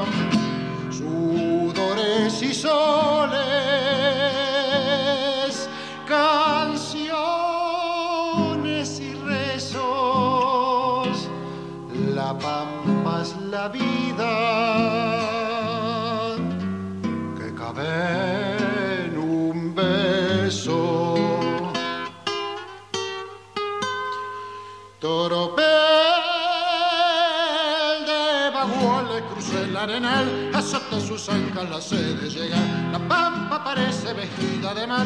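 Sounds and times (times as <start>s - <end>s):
man singing with vibrato: 0.0s - 23.6s, 24.6s - 35.0s
acoustic guitar: 0.0s - 35.0s.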